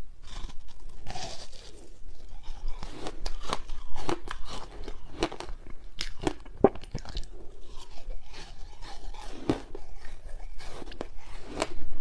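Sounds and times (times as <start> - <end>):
ice crunching being chewed: 0.2 - 11.9.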